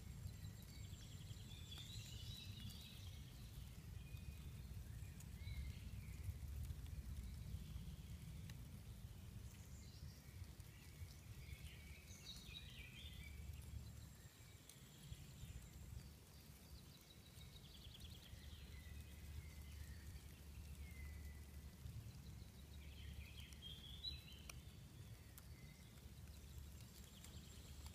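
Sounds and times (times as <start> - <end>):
faint birdsong: 0.0 - 27.9.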